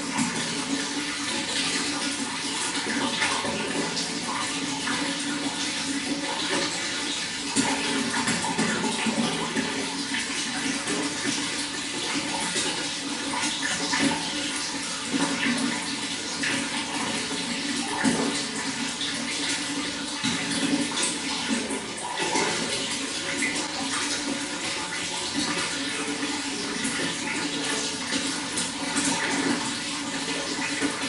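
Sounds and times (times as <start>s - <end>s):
running water splashing: 0.0s - 31.0s
water gurgles: 0.0s - 31.0s.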